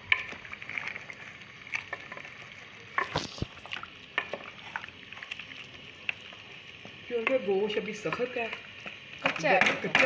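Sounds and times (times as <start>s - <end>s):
low sizzle: 0.0s - 10.0s.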